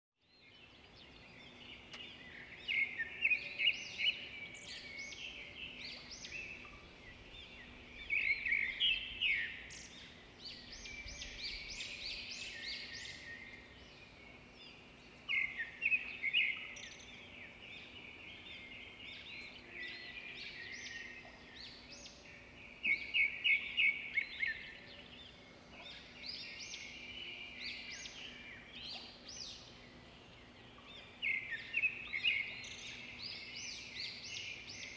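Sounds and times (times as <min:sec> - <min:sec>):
birds chirping and singing: 0:00.3 - 0:34.9.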